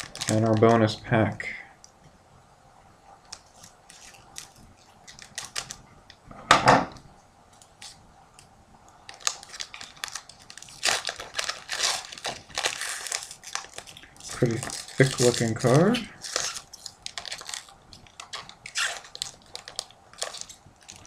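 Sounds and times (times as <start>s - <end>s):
foil wrapper crinkling: 0.0s - 1.0s, 3.2s - 5.8s, 7.6s - 21.0s.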